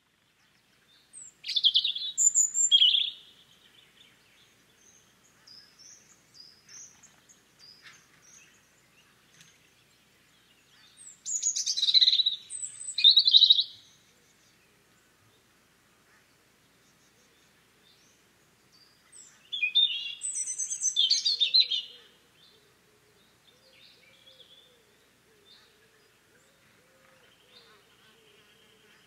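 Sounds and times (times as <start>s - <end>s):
robin singing: 0.5s - 14.7s, 16.7s - 29.0s.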